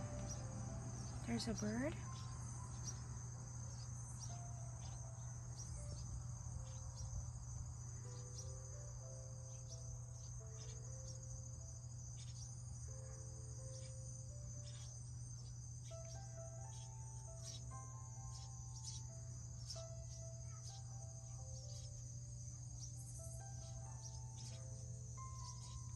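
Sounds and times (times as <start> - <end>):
bird chirping: 0.0 - 25.9
insects trilling: 0.0 - 25.9.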